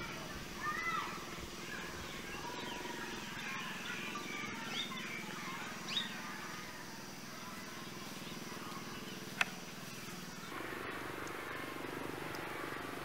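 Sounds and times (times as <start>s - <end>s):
high chirping animal calls: 0.0s - 10.7s
steady low hum: 0.0s - 13.0s.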